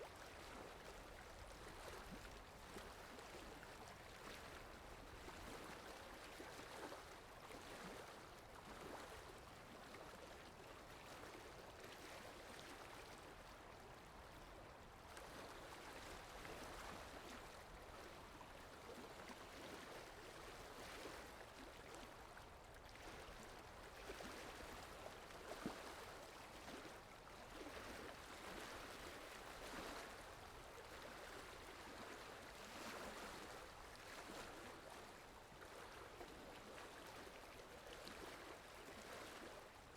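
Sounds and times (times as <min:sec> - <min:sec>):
faint flowing water: 0:00.0 - 0:39.9.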